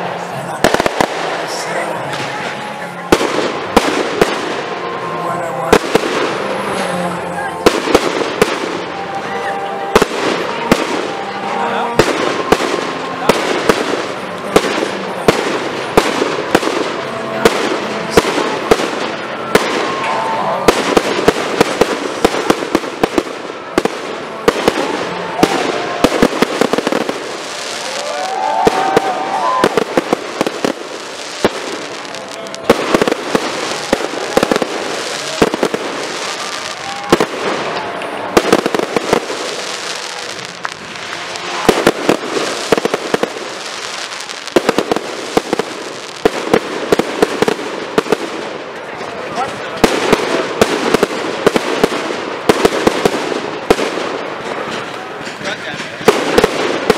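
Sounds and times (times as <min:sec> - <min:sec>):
fireworks crackle: 0:00.0 - 0:56.9.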